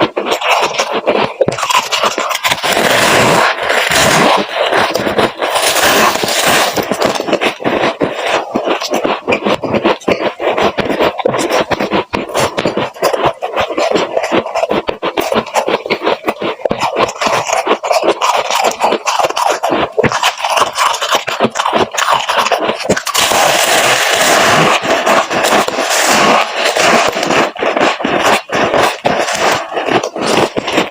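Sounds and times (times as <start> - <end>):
freezer frost crunching and scraping: 0.0 - 30.9.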